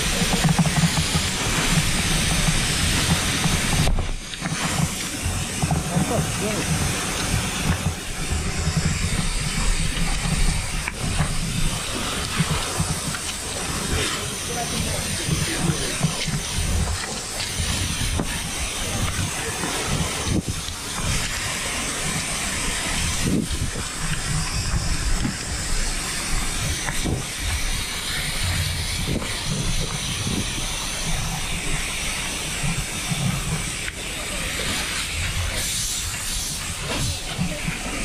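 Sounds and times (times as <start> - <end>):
fire hose spraying water hissing: 0.0 - 38.0
low rumble: 0.0 - 38.0.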